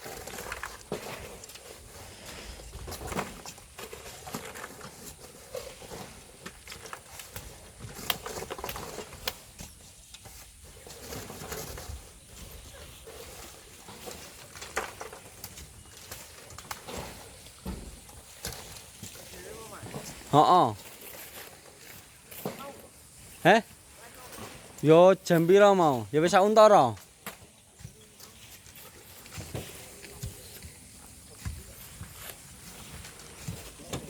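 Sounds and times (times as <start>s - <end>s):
hand tools knocking and scraping stone: 0.0s - 34.0s.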